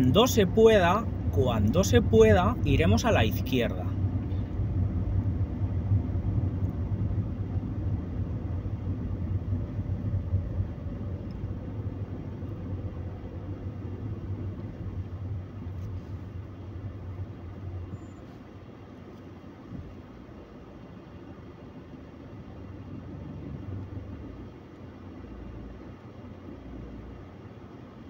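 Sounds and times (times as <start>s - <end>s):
car engine and road hum: 0.0s - 28.0s.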